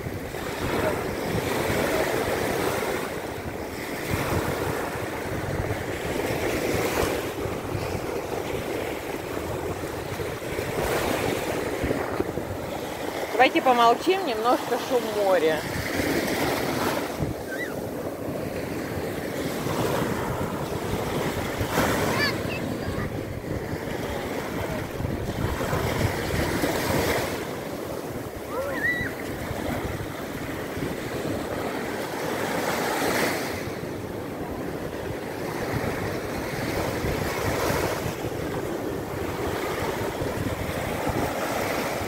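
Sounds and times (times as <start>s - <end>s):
waves breaking on beach: 0.0s - 42.0s.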